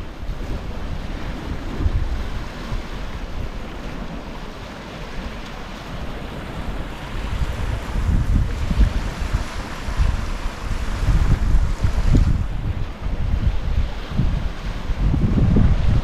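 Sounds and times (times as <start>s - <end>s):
ocean waves lapping: 0.0s - 16.0s
wind on microphone: 0.0s - 16.0s.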